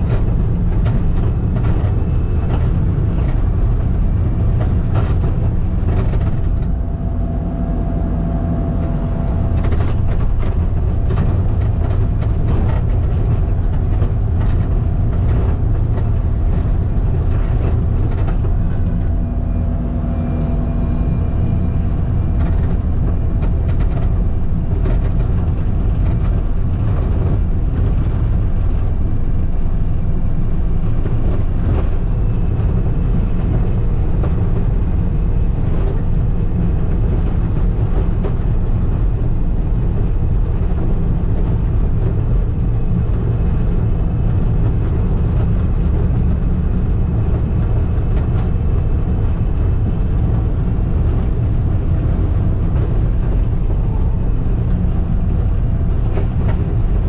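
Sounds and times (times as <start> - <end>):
clanks and rattles: 0.0 - 57.0
skid steer engine drone: 0.0 - 57.0.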